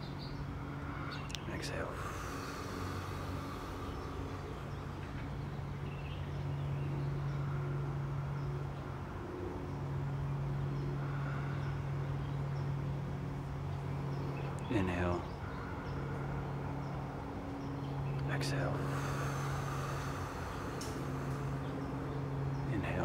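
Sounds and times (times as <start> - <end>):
distant motor humming: 0.0 - 23.0.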